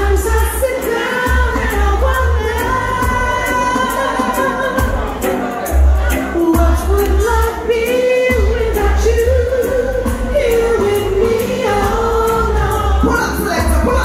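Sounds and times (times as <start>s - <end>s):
hi-hat beat: 0.0s - 14.0s
person singing: 0.0s - 14.0s
pulsing bass line: 0.0s - 14.0s.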